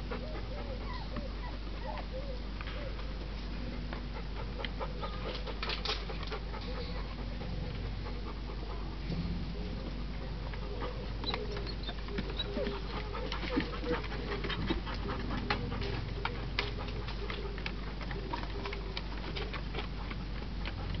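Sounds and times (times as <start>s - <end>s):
dogs panting: 0.0s - 21.0s.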